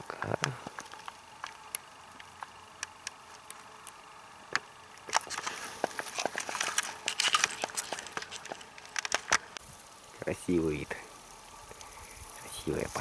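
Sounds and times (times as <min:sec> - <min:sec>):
grass rustling and crackling: 0:00.0 - 0:13.0.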